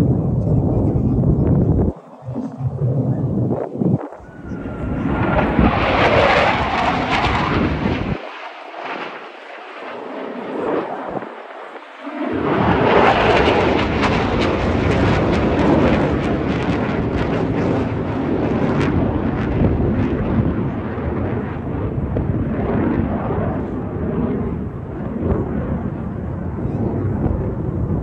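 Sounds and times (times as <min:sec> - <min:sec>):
military jet flying past: 0:00.0 - 0:28.0.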